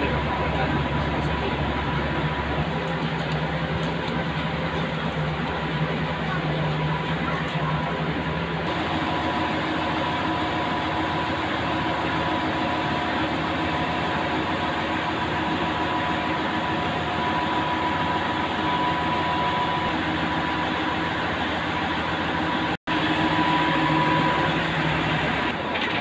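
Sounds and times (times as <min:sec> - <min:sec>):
train machinery humming: 0:00.0 - 0:26.0.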